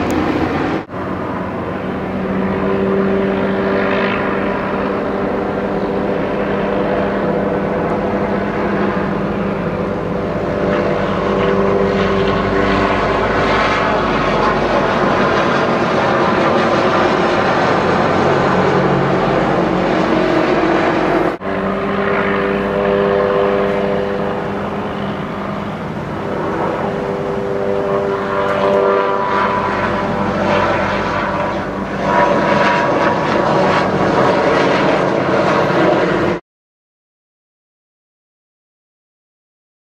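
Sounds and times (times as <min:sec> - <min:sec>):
helicopter rotor drone: 0:00.0 - 0:36.4.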